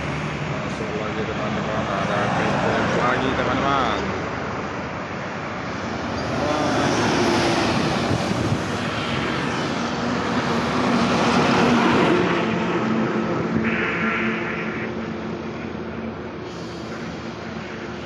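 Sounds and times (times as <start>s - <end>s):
bus driving past: 0.0s - 18.0s.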